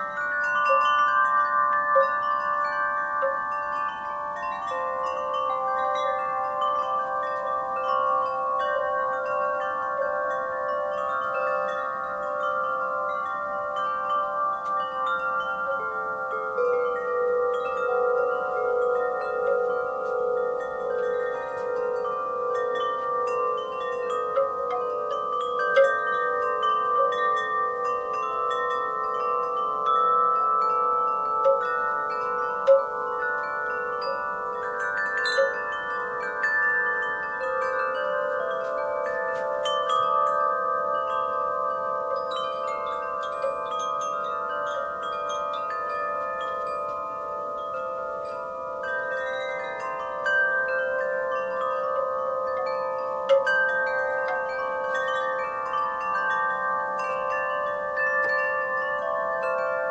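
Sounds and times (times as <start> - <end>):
faint breeze hiss: 0.0 - 59.9
wind chimes ringing: 0.0 - 59.9.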